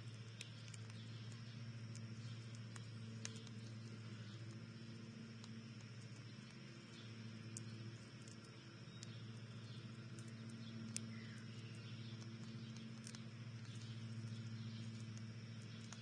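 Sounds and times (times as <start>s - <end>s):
sharp ticks: 0.0s - 16.0s
soft bird chirps: 0.0s - 16.0s
steady low hum: 0.0s - 16.0s.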